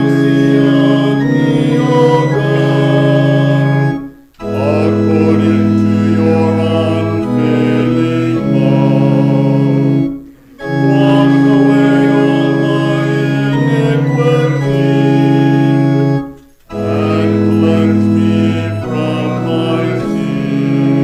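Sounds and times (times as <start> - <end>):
church organ playing chords: 0.0 - 21.0.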